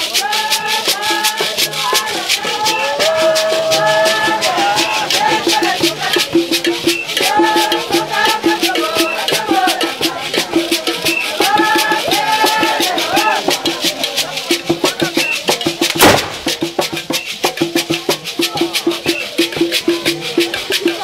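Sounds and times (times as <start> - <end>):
hand rattles shaken: 0.0 - 21.0
voices singing: 0.0 - 21.0.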